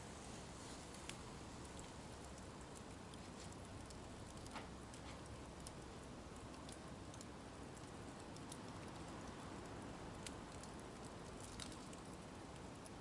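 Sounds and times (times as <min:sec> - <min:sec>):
burning wood crackling and popping: 0:00.0 - 0:13.0.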